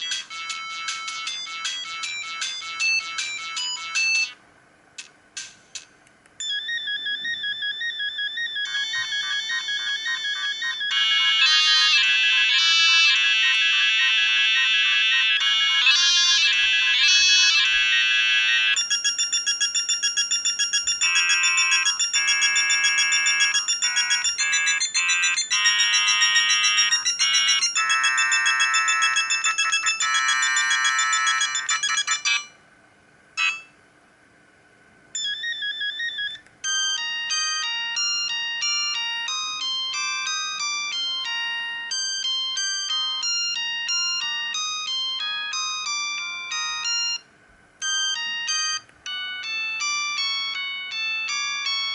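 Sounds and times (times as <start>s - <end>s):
electronic phone ringtone melody: 0.0s - 4.4s, 6.4s - 32.6s, 33.4s - 33.8s, 35.2s - 51.9s.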